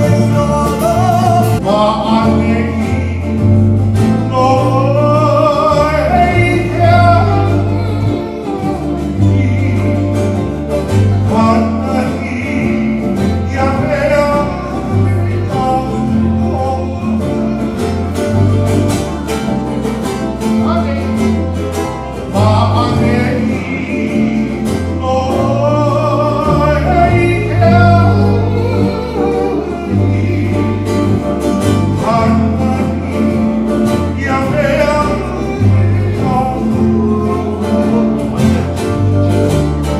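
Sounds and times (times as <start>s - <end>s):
moving bass line: 0.0s - 39.9s
song with singing voice: 0.0s - 39.9s.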